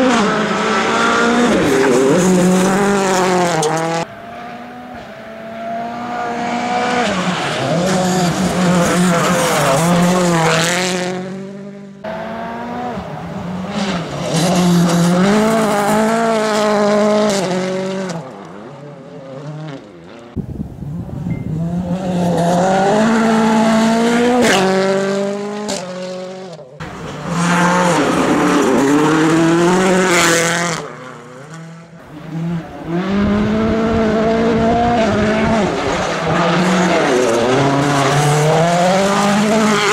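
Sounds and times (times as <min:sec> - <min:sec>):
rally car engine revving hard: 0:00.0 - 0:20.4, 0:21.5 - 0:39.9.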